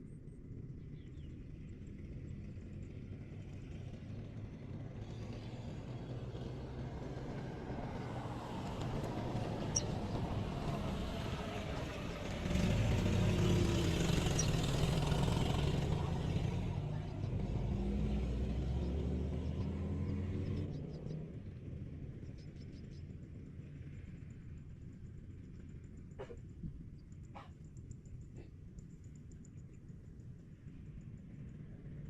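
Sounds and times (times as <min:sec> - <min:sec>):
vehicle engine humming: 0:02.0 - 0:32.0.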